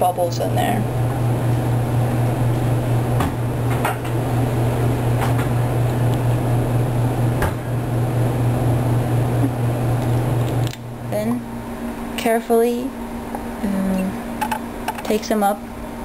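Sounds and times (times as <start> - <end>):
low hum of equipment: 0.0 - 16.0.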